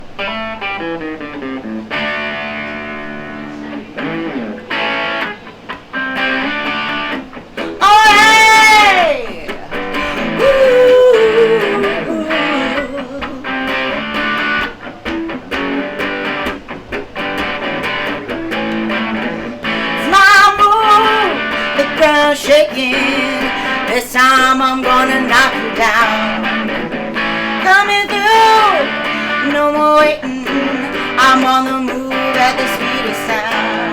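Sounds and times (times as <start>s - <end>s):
rock guitar playing: 0.0s - 33.9s.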